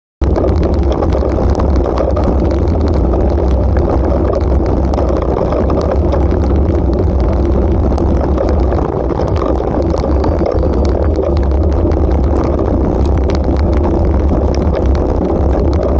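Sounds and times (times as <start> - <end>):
bicycle tyres rumbling on gravel: 0.2 - 15.9.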